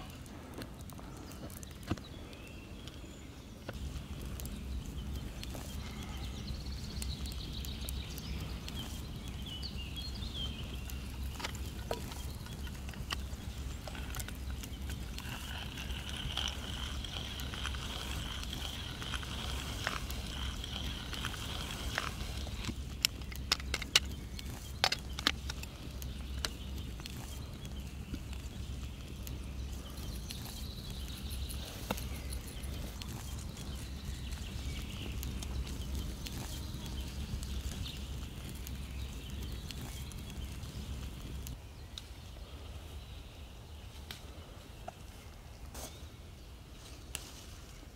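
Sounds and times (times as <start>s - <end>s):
faint birdsong: 0.0s - 47.9s.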